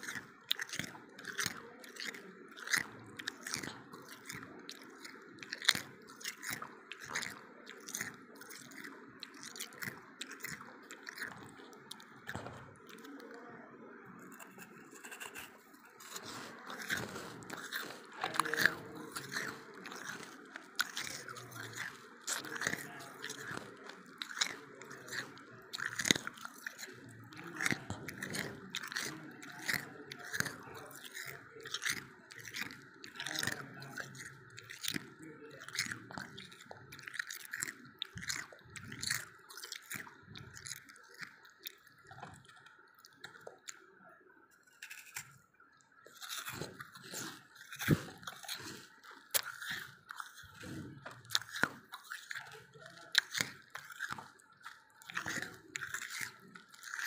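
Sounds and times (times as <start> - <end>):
person crunching frost: 0.0 - 43.9, 44.6 - 57.0.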